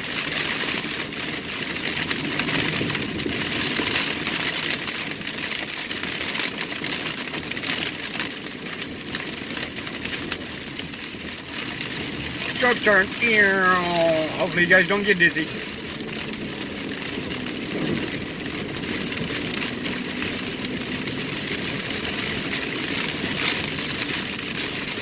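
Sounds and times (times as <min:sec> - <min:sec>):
heavy rain on car roof: 0:00.0 - 0:25.0
car engine running: 0:00.1 - 0:25.0.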